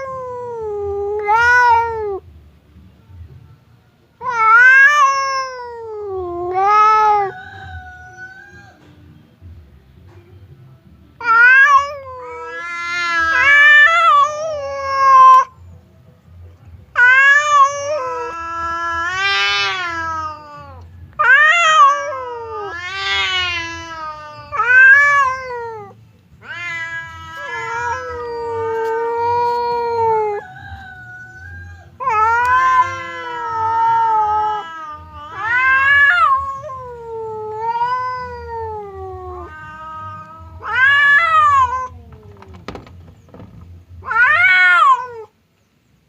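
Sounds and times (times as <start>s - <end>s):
cats yowling: 0.0s - 2.2s, 4.2s - 8.9s, 11.2s - 15.6s, 16.9s - 45.4s.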